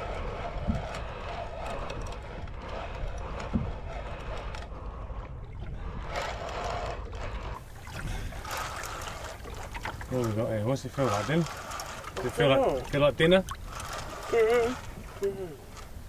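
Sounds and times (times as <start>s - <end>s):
water lapping against boat hull: 0.1s - 16.0s.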